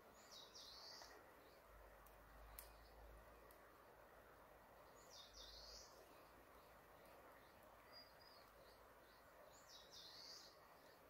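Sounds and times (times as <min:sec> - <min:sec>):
faint songbird song: 0:00.0 - 0:11.0.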